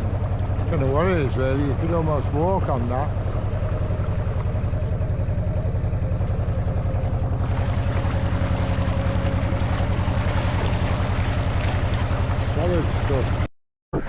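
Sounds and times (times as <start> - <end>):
boat diesel engine chugging: 0.0 - 13.5.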